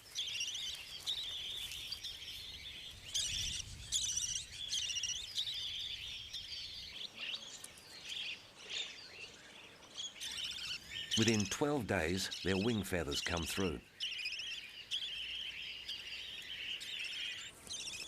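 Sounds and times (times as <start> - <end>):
budgerigars chirping and warbling: 0.0 - 18.0.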